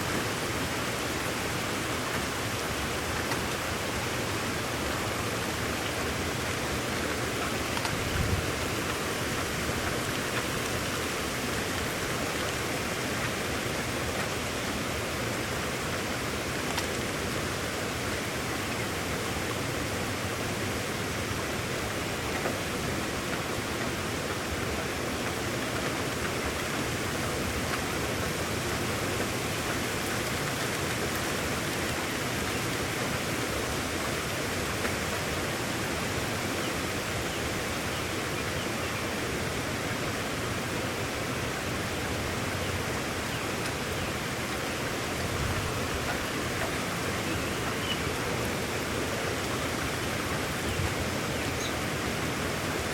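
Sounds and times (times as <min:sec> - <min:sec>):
heavy rain hiss: 0:00.0 - 0:52.9.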